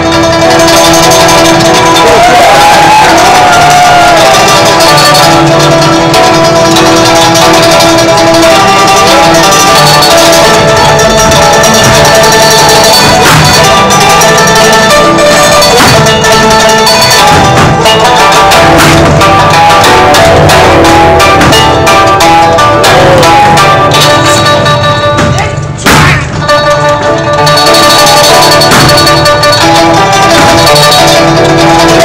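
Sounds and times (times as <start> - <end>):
loud music with drums: 0.0 - 32.0.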